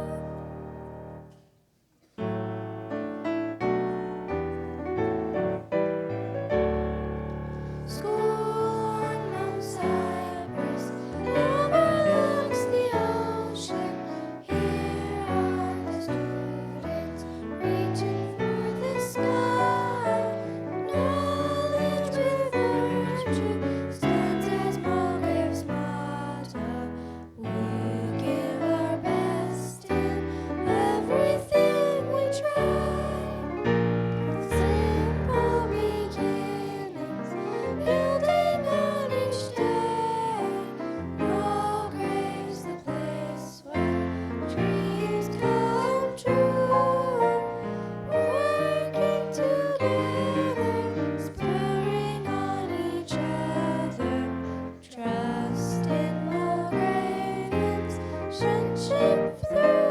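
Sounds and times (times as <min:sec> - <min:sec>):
people singing: 0:00.0 - 0:00.8, 0:07.7 - 0:59.9
piano chords: 0:00.0 - 0:01.5, 0:02.2 - 0:59.9.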